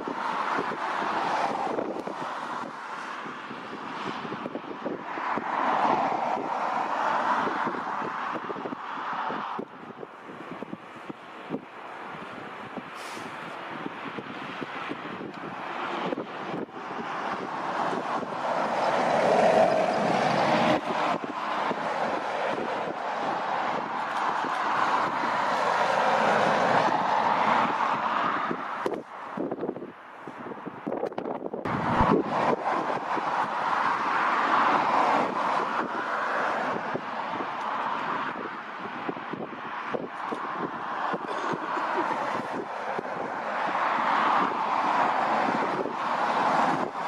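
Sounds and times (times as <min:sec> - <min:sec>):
turbofan engines roaring: 0:00.0 - 0:30.4, 0:31.0 - 0:47.0
wind buffeting microphone: 0:00.0 - 0:47.0.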